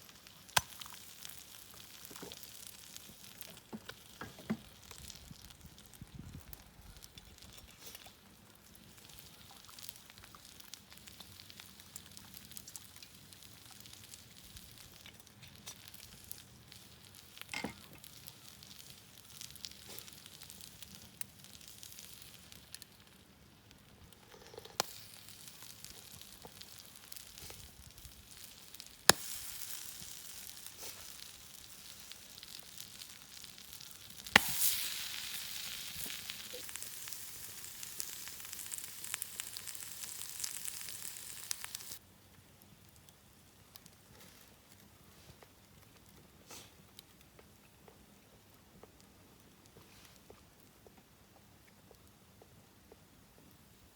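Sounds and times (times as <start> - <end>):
food sizzling over campfire: 0.0 - 42.0, 45.2 - 47.7.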